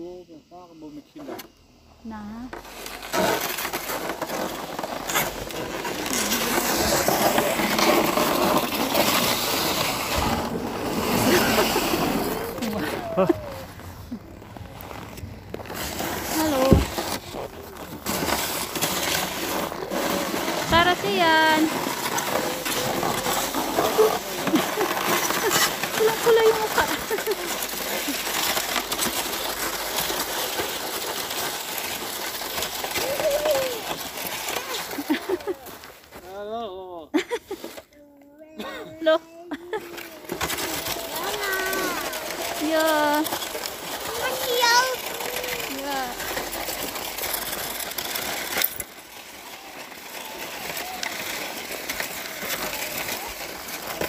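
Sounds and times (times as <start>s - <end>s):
sled scraping over snow: 2.1s - 54.0s
snow crunching: 2.6s - 37.8s, 38.6s - 54.0s
snow squeaks: 2.6s - 37.9s, 38.5s - 54.0s.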